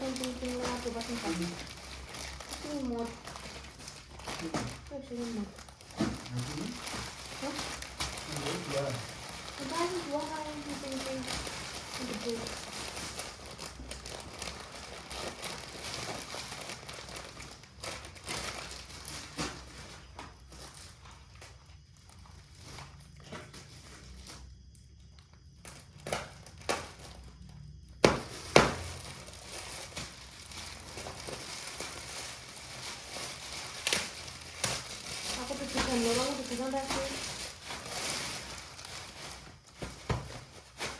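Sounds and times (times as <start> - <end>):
plastic packaging crinkling: 0.0 - 24.5, 25.1 - 40.9.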